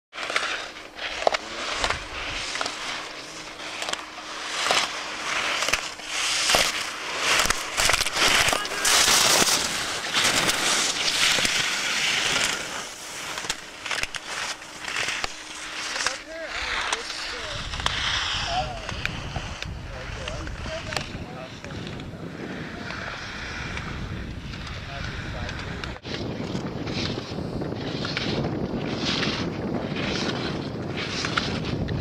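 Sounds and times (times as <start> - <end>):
skis scraping across hard snow: 0.1 - 32.0.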